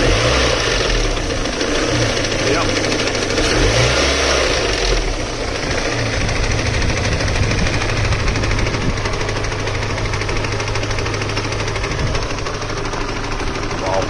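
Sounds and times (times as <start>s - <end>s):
engine running with knock: 0.0s - 14.0s.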